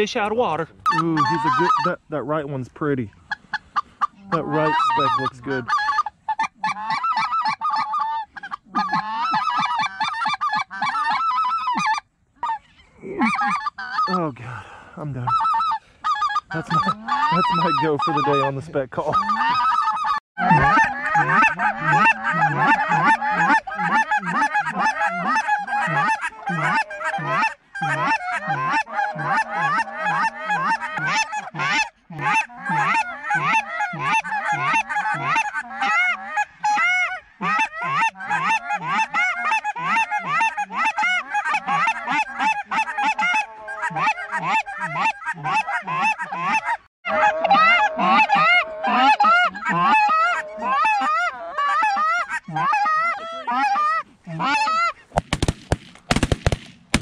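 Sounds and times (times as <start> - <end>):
flock of geese honking: 0.0 - 55.2.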